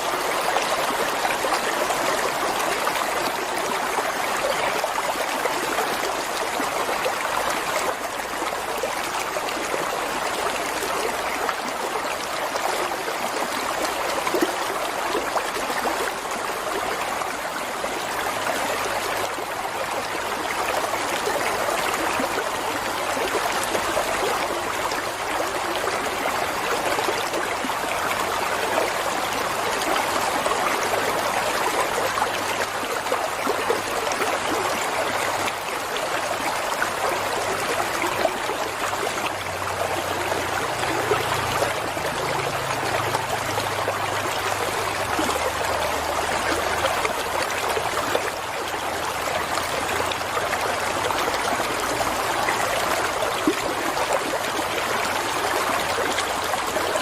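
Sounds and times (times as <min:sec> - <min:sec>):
stream rushing over rocks: 0:00.0 - 0:57.0
water trickling splashes: 0:00.0 - 0:57.0.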